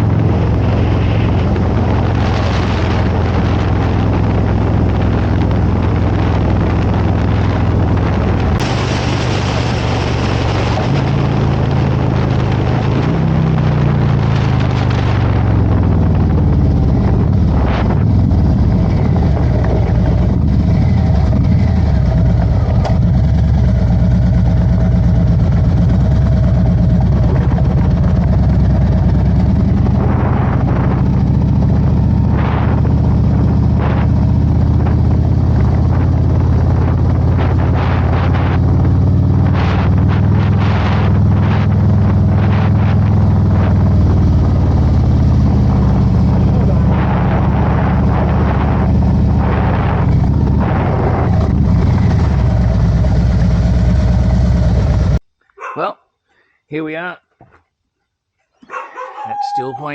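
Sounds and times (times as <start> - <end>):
motorcycle engine running: 0.0 - 55.2
wind on microphone: 0.0 - 55.2.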